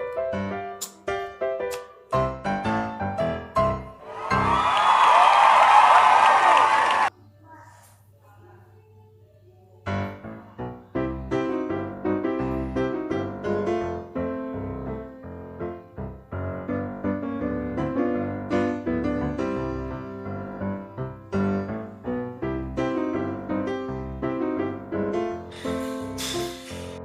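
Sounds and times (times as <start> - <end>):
piano music: 0.0 - 4.9, 9.9 - 27.0.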